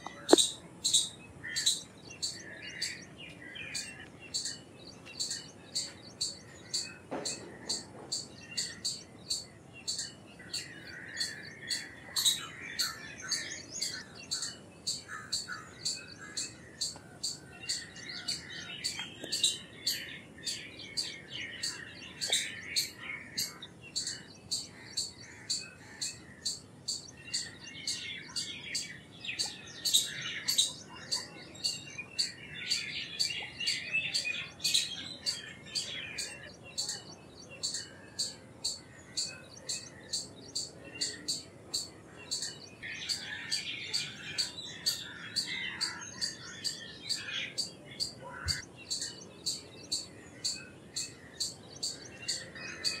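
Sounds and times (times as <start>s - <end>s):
squirrel chirping: 0.0s - 3.1s, 3.7s - 53.0s
squirrel twittering chatter: 0.0s - 53.0s.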